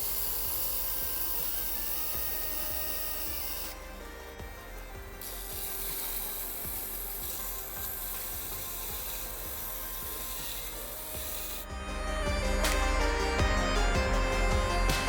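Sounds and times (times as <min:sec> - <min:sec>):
abrasive metal rasping: 0:00.0 - 0:15.0
background music: 0:00.0 - 0:15.0.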